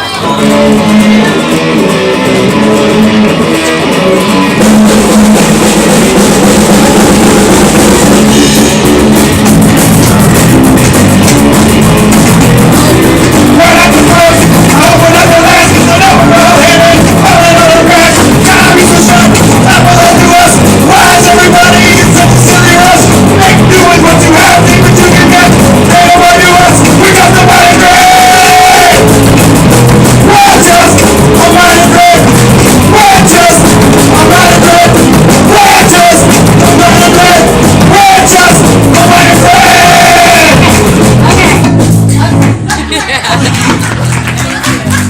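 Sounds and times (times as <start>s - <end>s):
held melody line: 0.0s - 42.1s
rock band playing: 0.0s - 45.0s.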